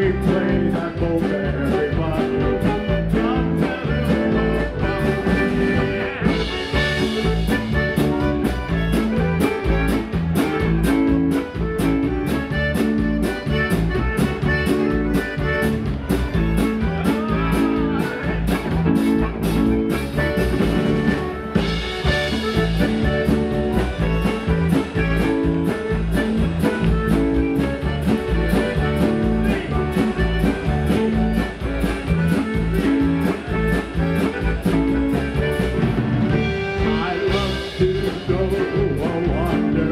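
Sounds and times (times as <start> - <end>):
polka band playing: 0.0 - 39.9.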